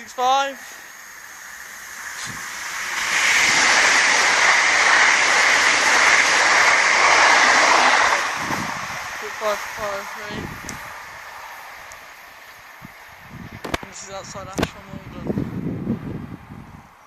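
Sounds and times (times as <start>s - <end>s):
train passing at speed: 0.1s - 14.4s.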